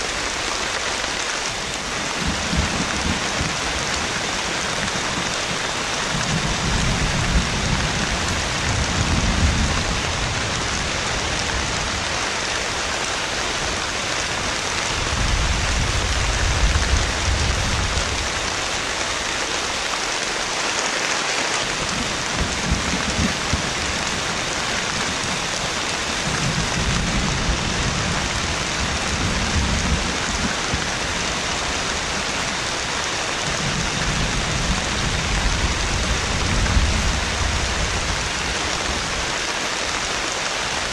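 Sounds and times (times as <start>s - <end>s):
heavy rain hissing: 0.0s - 40.9s
low thunder rumbling: 1.6s - 19.9s, 21.6s - 39.4s.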